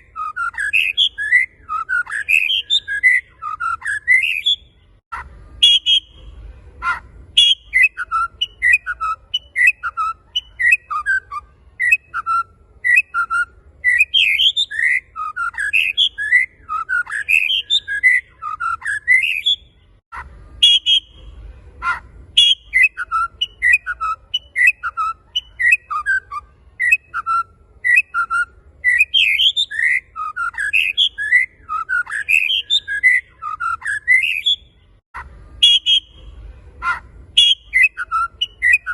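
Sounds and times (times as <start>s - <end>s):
bird whistling song: 0.0s - 38.9s.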